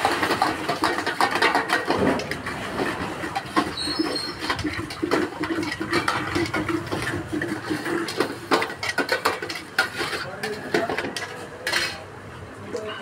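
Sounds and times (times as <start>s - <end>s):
stirring yogurt in bowl: 0.0s - 12.0s
steel bowls clinking: 0.0s - 12.1s.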